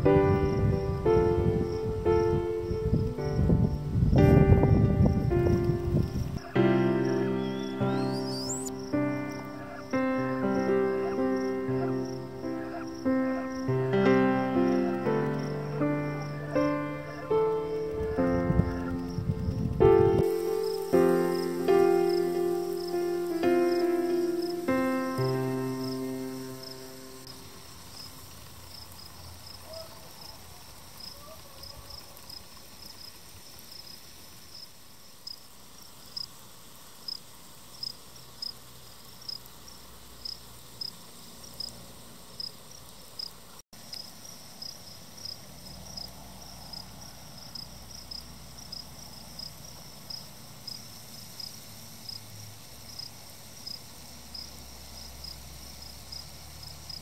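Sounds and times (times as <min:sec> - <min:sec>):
cricket chirping: 0:00.0 - 0:57.0
faint steady hiss: 0:00.0 - 0:57.0.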